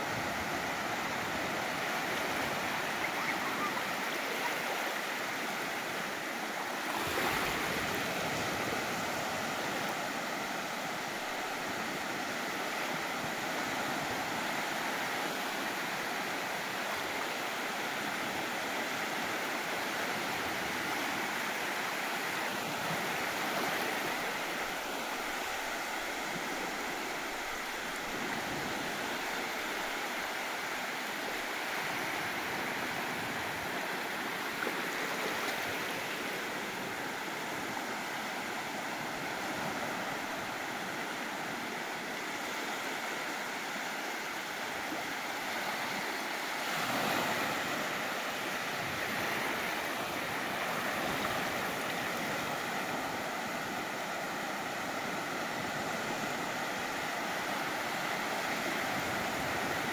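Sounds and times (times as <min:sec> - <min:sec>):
surf washing onto beach: 0:00.0 - 0:59.9.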